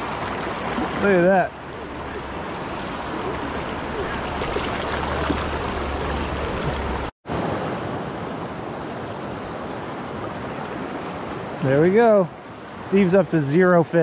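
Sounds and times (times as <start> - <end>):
river water rushing over rocks: 0.0 - 12.1.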